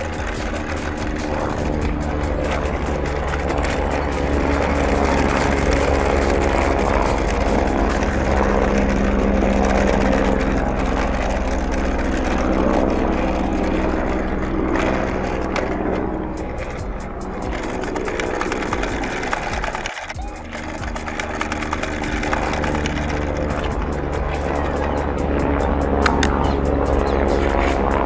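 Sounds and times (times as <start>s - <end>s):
toy helicopter motor whirring: 0.0s - 28.0s.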